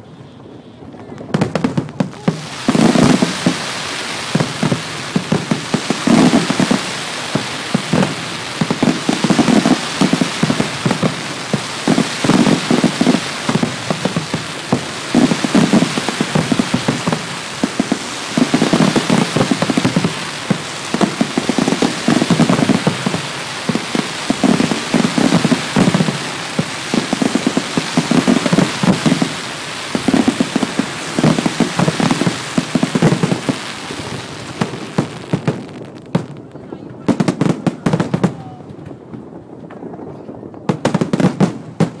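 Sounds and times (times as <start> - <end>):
firecrackers crackling: 0.0 - 42.0.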